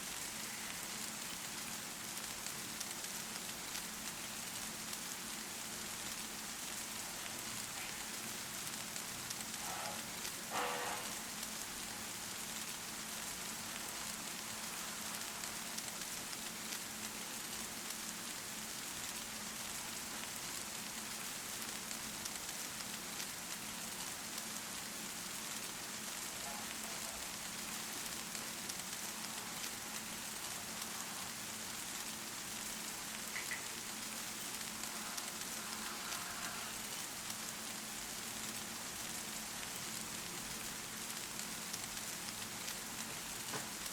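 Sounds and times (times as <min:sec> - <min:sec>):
rain pattering on a surface: 0:00.0 - 0:43.9.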